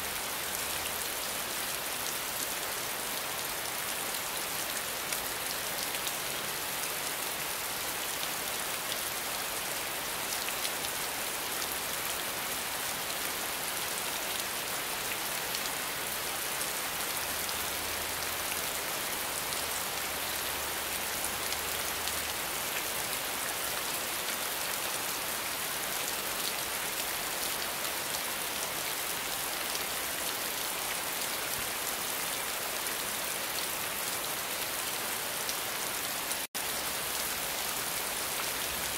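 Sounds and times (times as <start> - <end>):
steady rainfall hiss: 0.0 - 38.9.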